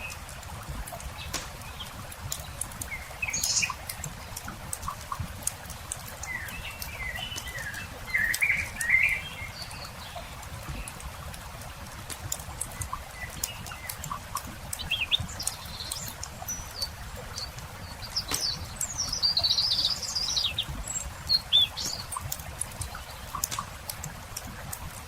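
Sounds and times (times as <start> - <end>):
campfire crackling: 0.0 - 25.0
songbird chirping: 1.0 - 11.1, 12.3 - 24.7.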